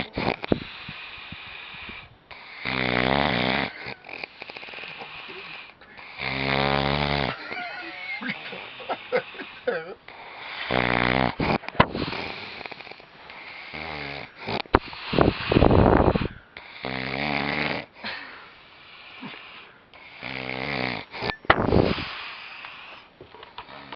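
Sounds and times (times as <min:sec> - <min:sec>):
man snoring loudly: 0:00.0 - 0:17.9, 0:18.8 - 0:22.6
puffing breaths: 0:00.0 - 0:23.9.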